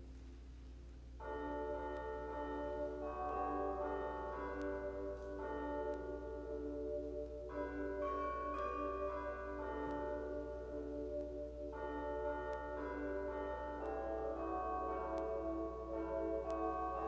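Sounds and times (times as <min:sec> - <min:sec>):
low steady hum: 0:00.0 - 0:17.0
church bells ringing: 0:01.2 - 0:17.0.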